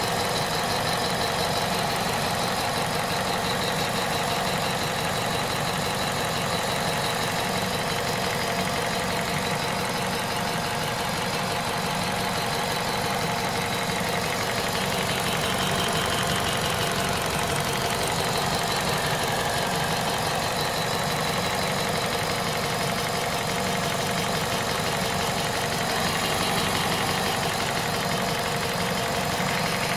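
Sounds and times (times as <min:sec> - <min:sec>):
petrol engine idling: 0:00.0 - 0:29.9.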